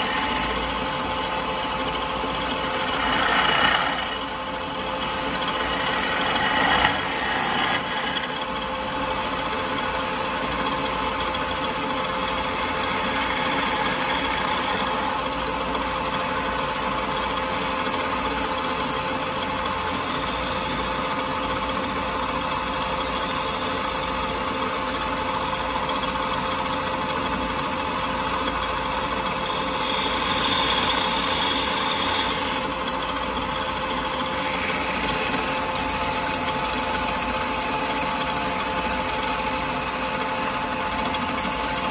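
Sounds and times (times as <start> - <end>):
chisel cutting spinning wood: 0.0 - 41.9
wood lathe humming: 0.0 - 41.9.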